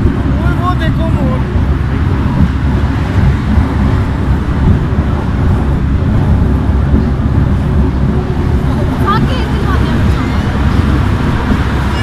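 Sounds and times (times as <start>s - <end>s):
amusement ride rumble: 0.0s - 12.0s.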